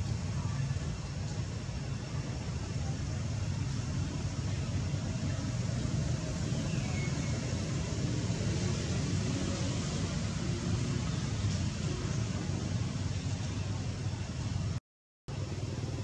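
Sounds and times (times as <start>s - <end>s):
outdoor hiss: 0.0s - 16.0s.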